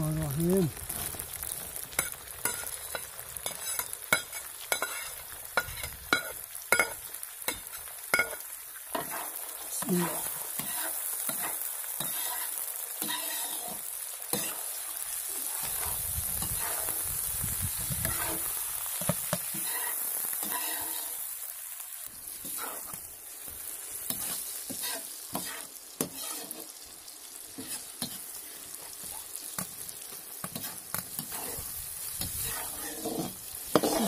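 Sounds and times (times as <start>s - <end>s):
food frying in oil: 0.0s - 34.0s.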